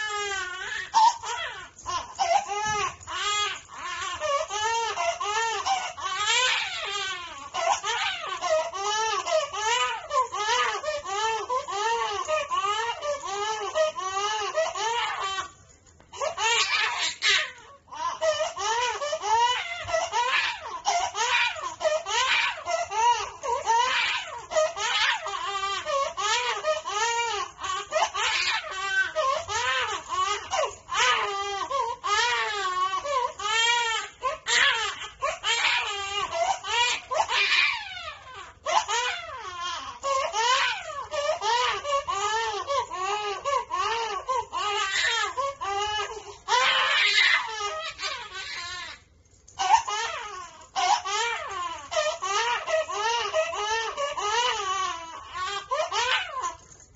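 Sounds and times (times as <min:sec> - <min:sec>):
infant crying: 0:00.0 - 0:56.8.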